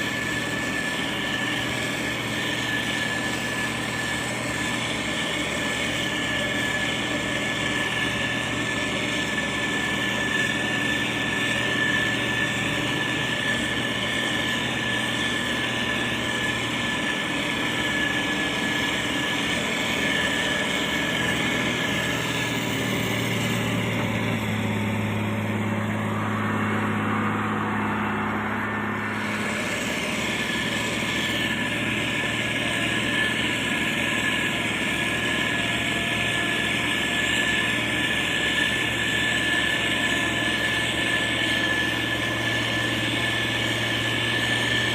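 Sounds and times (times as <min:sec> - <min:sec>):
diesel engine running: 0:00.0 - 0:44.9
high whine: 0:00.0 - 0:44.9.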